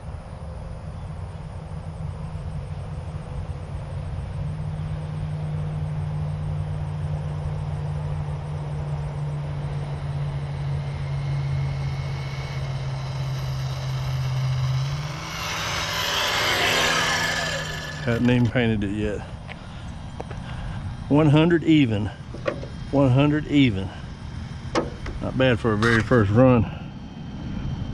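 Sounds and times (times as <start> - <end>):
steady low hum: 0.0 - 27.9
electric motor whine: 1.6 - 27.9.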